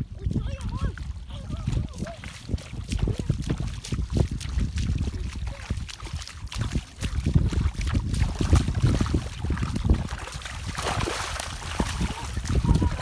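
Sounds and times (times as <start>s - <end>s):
water splashing from wading feet: 0.0s - 13.0s
wind buffeting microphone: 0.0s - 13.0s.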